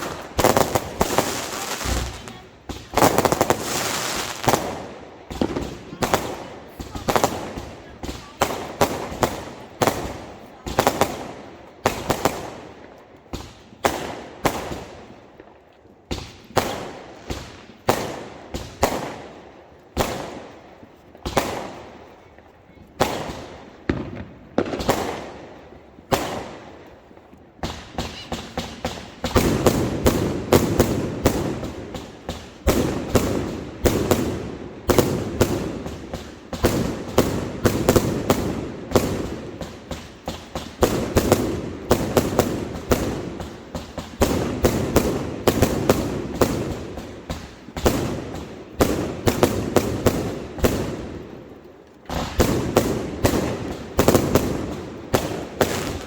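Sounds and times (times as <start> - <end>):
fireworks bangs: 0.0 - 15.5, 23.0 - 51.4, 52.0 - 56.0
rapid crackling fireworks: 0.0 - 56.0.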